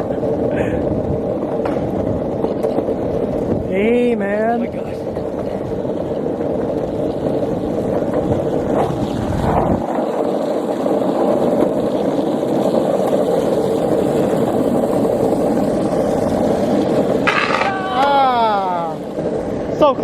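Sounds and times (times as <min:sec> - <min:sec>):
skateboard wheels rolling on pavement: 0:00.0 - 0:20.0.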